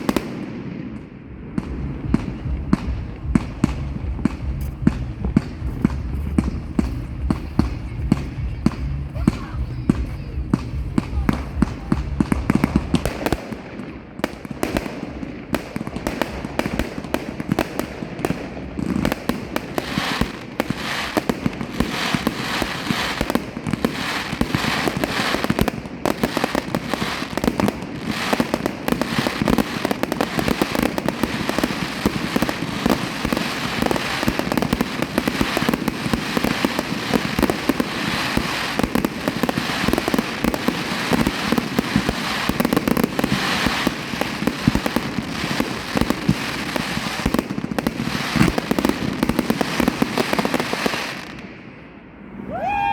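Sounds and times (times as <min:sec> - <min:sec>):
fireworks popping and crackling: 0:00.0 - 0:51.9.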